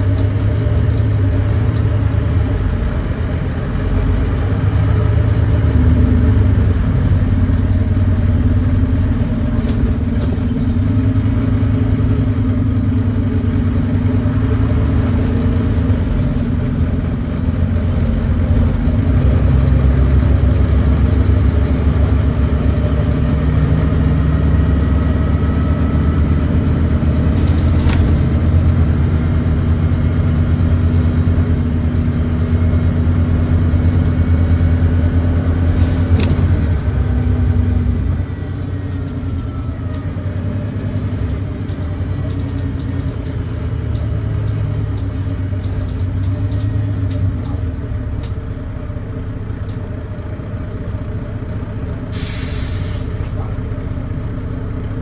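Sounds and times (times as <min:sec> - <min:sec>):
bus diesel engine pulling hard: 0:00.0 - 0:55.0.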